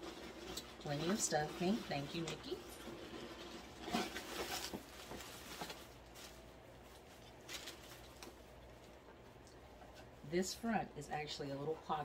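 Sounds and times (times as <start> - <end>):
stuffing rustling and crinkling: 0.0 - 12.0.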